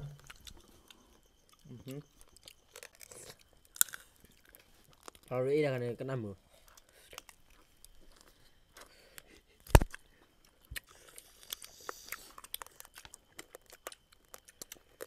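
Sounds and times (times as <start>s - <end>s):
chewing and biting: 0.1s - 5.3s, 6.5s - 15.0s.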